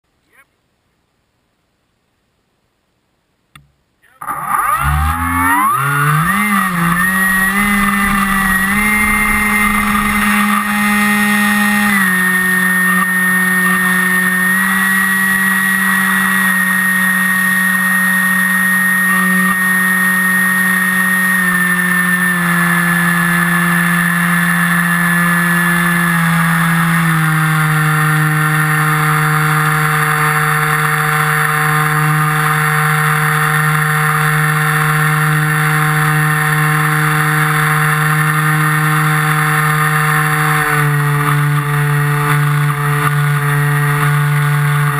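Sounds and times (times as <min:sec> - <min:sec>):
model aircraft motor and propeller: 0:04.1 - 0:44.9.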